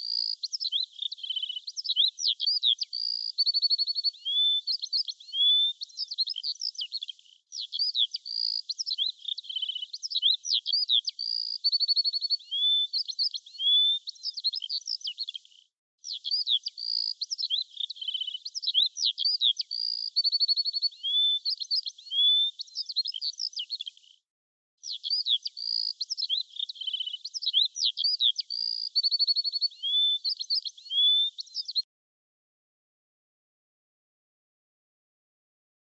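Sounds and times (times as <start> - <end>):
songbird singing: 0.0 - 24.0, 24.8 - 31.9.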